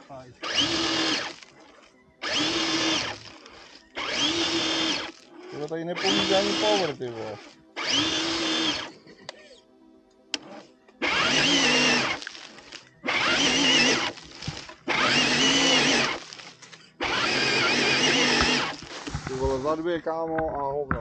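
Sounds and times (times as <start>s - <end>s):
electric motor and gears whining: 0.0s - 8.9s, 10.3s - 20.2s.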